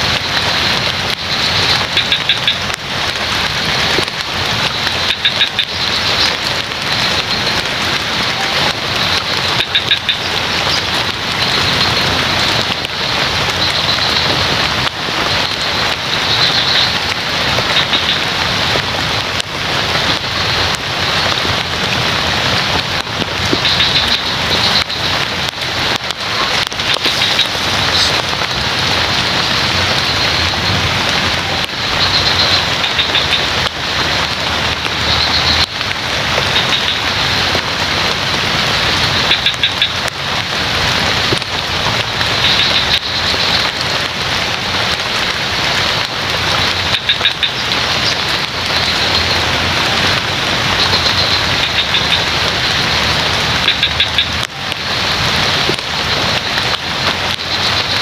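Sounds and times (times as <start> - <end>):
frogs trilling: 0.0 - 18.4, 23.3 - 25.4, 26.0 - 40.1, 41.0 - 44.5, 45.8 - 58.0
heavy rain on foliage: 0.0 - 58.0.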